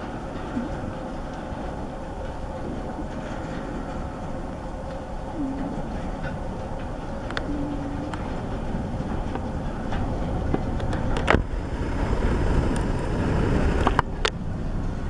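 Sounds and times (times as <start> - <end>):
freight wheels rumbling on track: 0.0 - 15.0.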